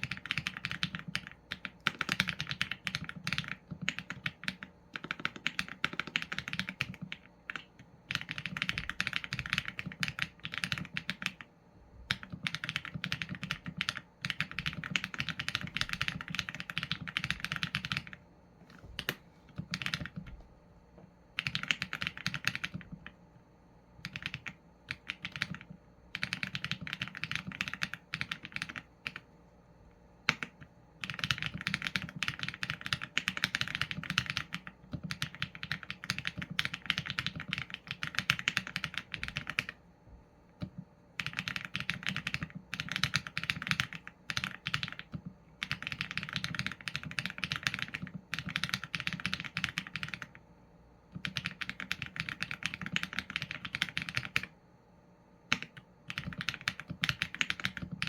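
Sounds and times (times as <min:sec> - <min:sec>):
mechanical keyboard typing: 0:00.0 - 0:11.5, 0:12.1 - 0:18.2, 0:19.0 - 0:20.4, 0:21.4 - 0:23.2, 0:24.0 - 0:29.2, 0:30.2 - 0:39.8, 0:40.6 - 0:50.4, 0:51.1 - 0:54.6, 0:55.5 - 0:58.0.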